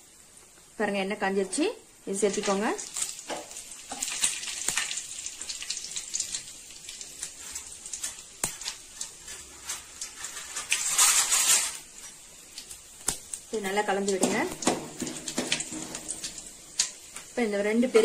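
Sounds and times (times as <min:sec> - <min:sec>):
spices sizzling in hot oil: 0:00.0 - 0:18.0.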